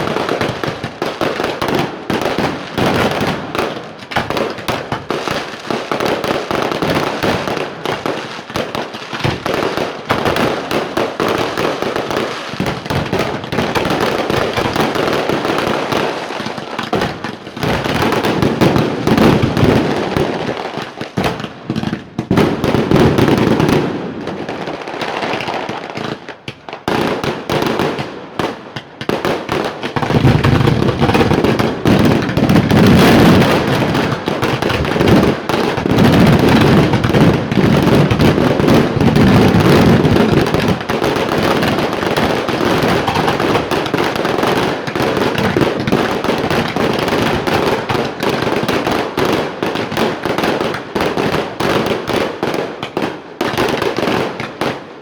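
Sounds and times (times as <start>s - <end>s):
fireworks booming bursts: 0.0s - 55.0s
fireworks crackling and popping: 0.0s - 55.0s.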